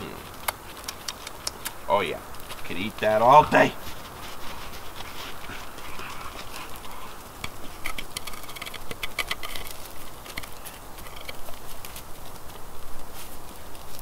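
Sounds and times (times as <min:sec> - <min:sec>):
campfire crackling: 0:00.0 - 0:14.0
dog footsteps on snow and leaves: 0:00.0 - 0:14.0.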